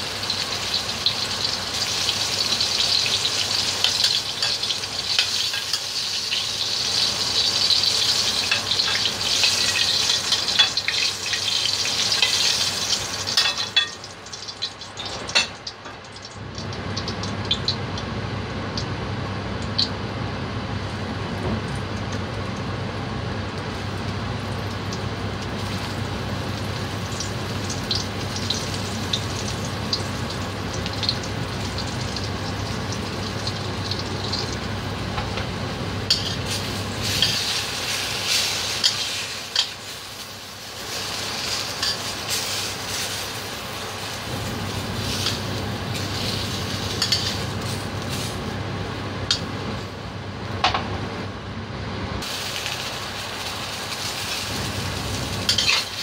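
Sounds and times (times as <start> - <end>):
oil sizzling and crackling: 0.0 - 50.6, 52.2 - 56.0.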